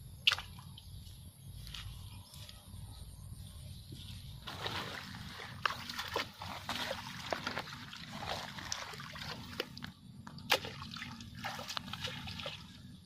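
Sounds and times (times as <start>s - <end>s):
feet wading through water and grass: 0.0s - 13.0s.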